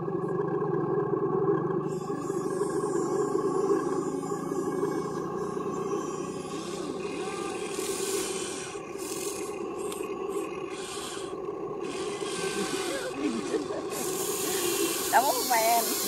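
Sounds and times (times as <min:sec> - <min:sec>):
toy excavator motors whining: 0:01.9 - 0:16.0.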